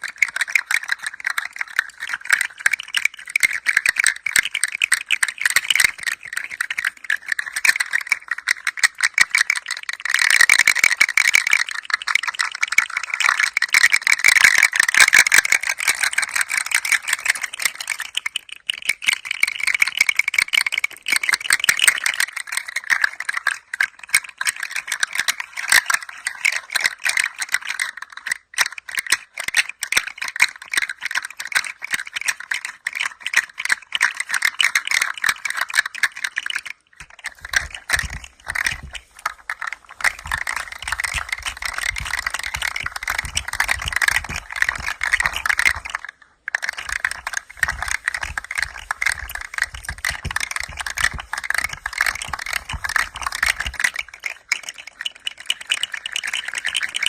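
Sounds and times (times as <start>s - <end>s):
toy rattle clattering: 0.0s - 57.0s.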